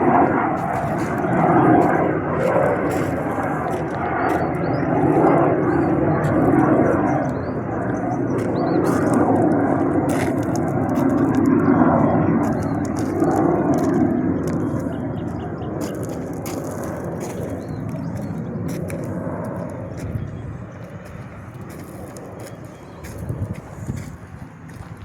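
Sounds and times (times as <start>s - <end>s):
aircraft engine rush: 0.0s - 25.0s.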